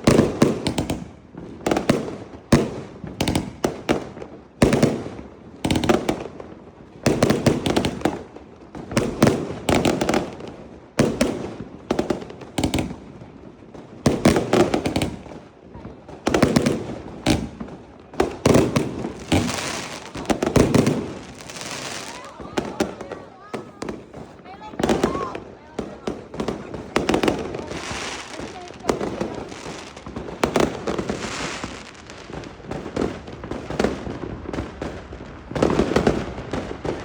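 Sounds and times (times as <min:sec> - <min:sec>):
fireworks bangs and cracks: 0:00.0 - 0:37.0.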